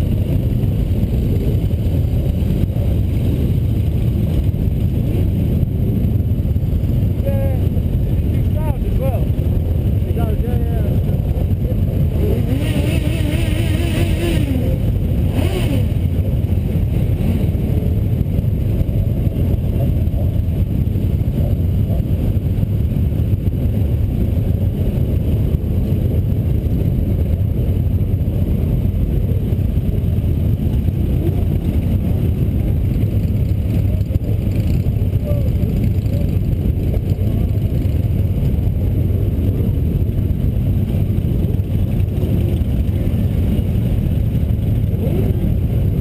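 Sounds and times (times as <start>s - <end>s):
motorcycle engines idling: 0.0s - 46.0s.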